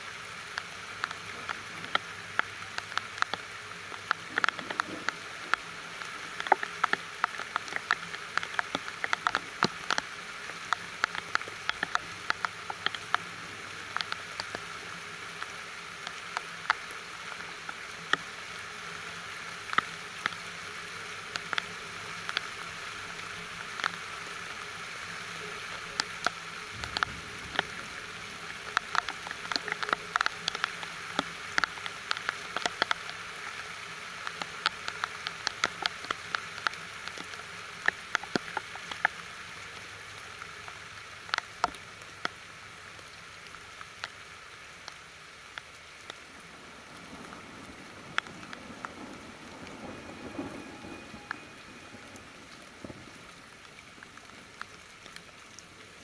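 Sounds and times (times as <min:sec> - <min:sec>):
rain pattering: 0:00.0 - 0:56.0
raindrops tapping close by: 0:00.0 - 0:56.0.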